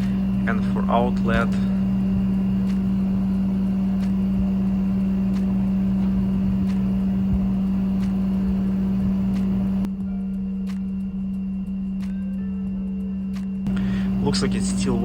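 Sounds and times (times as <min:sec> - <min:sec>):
heat pump compressor hum: 0:00.0 - 0:15.0.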